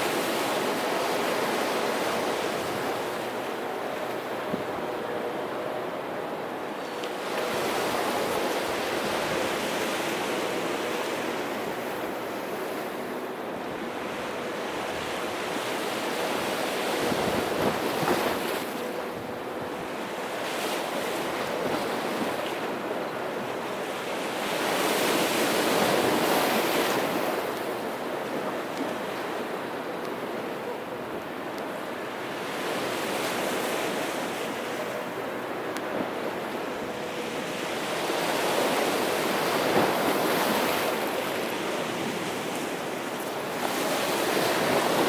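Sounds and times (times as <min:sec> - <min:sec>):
sea surf washing ashore: 0:00.0 - 0:45.0.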